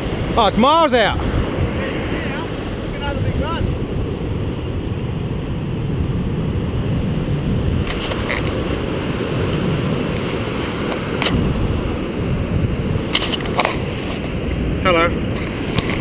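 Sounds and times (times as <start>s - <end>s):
breaking surf: 0.0s - 16.0s
wind buffeting microphone: 0.0s - 16.0s.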